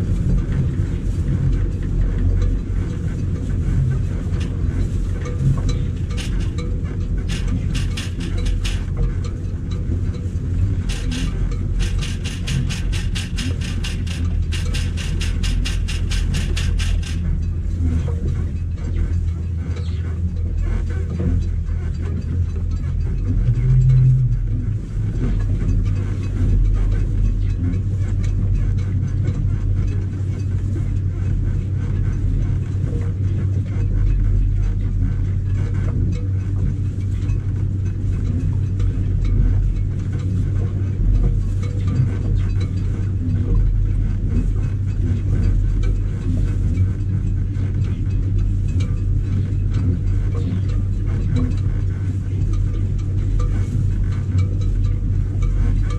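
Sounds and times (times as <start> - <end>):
electric motor low drone: 0.0 - 55.9.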